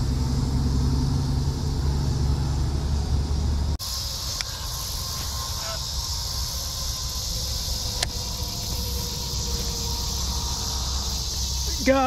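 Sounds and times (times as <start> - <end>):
low rumble: 0.0 - 11.7
insects chorus: 0.0 - 12.0.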